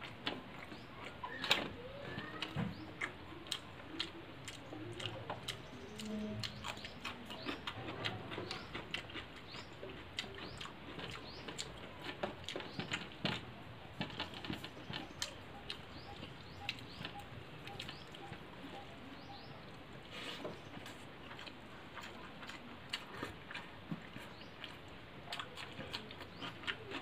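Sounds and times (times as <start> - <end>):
mouth smacking and chewing: 0.0 - 27.0.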